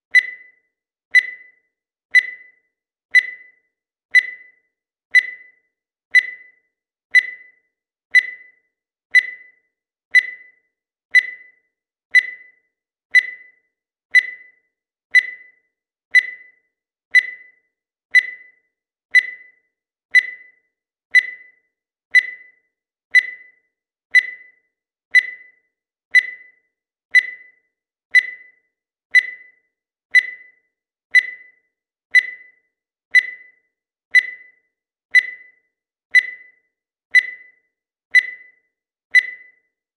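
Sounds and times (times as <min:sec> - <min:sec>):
digital timer beeping: 0:00.0 - 0:39.9.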